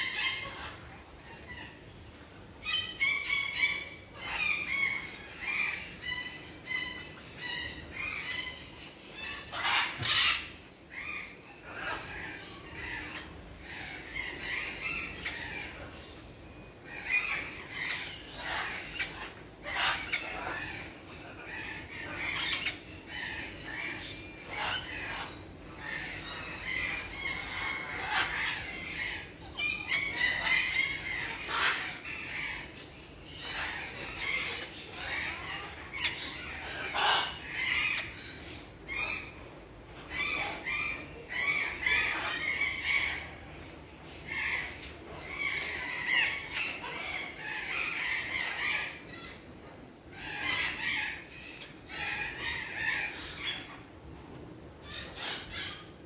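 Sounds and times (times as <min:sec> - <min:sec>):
parrots calling: 0:00.0 - 0:56.0.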